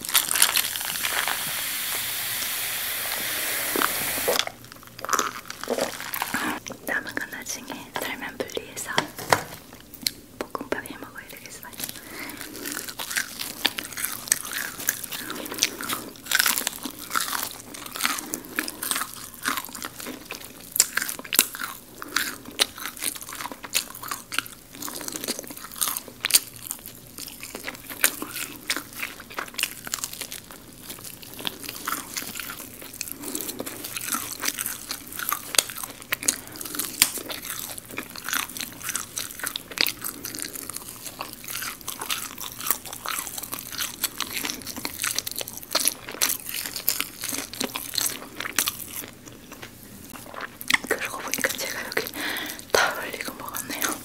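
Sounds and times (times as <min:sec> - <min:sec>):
crunching of fried chicken: 0:00.0 - 0:01.9, 0:04.4 - 0:06.7, 0:11.7 - 0:54.0
chewing: 0:00.0 - 0:02.0, 0:03.8 - 0:06.8, 0:11.6 - 0:54.0.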